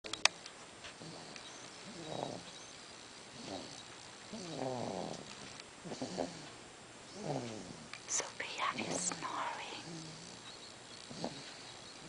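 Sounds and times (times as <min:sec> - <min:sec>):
small animal snoring: 0:01.0 - 0:08.2, 0:08.8 - 0:12.0.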